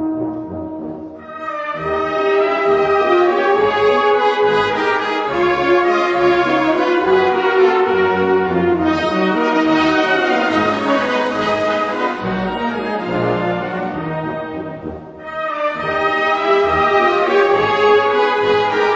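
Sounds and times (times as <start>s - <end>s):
brass music with held chords: 0.0s - 18.9s.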